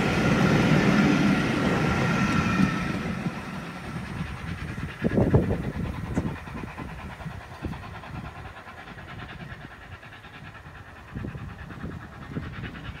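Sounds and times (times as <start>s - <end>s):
steam locomotive and train: 0.0s - 13.0s.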